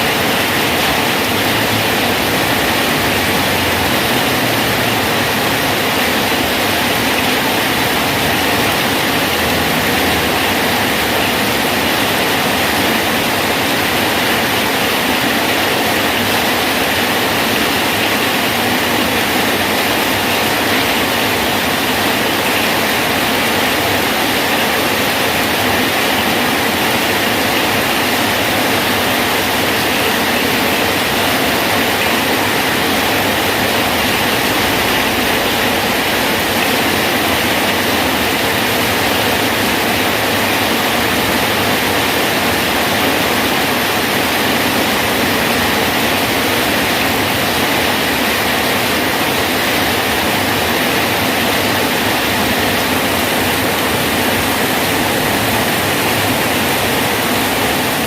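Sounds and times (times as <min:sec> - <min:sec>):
steady rain on a bridge: 0:00.0 - 0:58.0.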